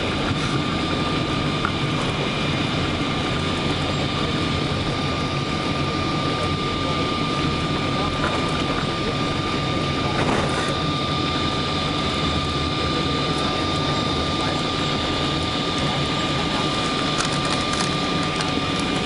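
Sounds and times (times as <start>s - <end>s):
aircraft cabin rumble: 0.0s - 19.0s
thin steady whine: 0.0s - 19.0s.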